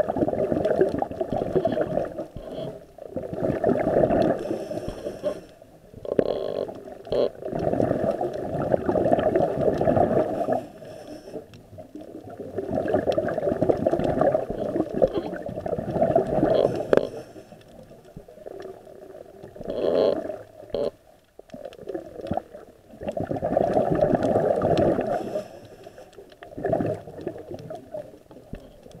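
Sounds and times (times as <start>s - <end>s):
underwater bubbles gurgling: 0.0s - 29.0s.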